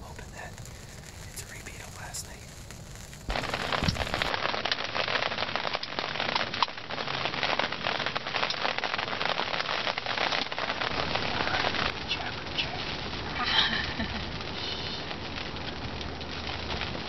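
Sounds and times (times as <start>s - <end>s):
rain pattering on fabric: 0.0s - 17.0s.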